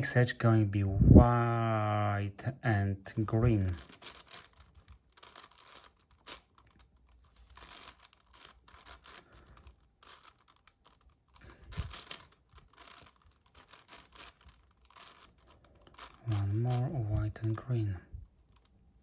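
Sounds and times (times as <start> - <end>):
puzzle cube clicking and rattling: 3.2 - 19.0.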